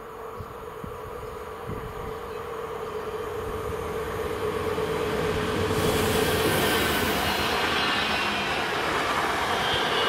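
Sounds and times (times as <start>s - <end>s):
electric train hum: 0.0s - 10.0s
wheel and rail rushing noise: 0.0s - 10.0s.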